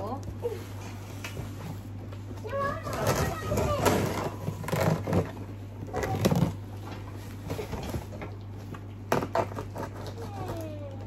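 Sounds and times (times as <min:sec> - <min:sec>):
cardboard flaps scraping and rustling: 0:01.4 - 0:10.8.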